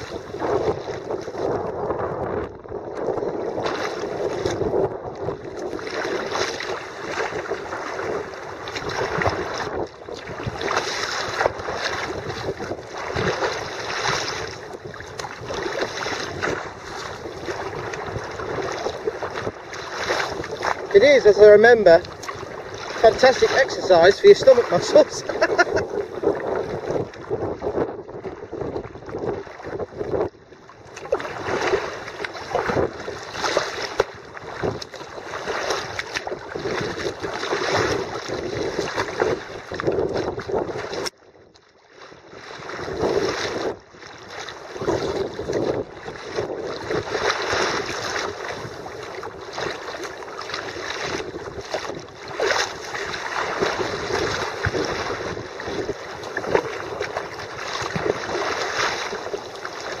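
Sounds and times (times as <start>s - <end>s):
water splashing along kayak hull: 0.0s - 60.0s
wind buffeting microphone: 0.0s - 60.0s.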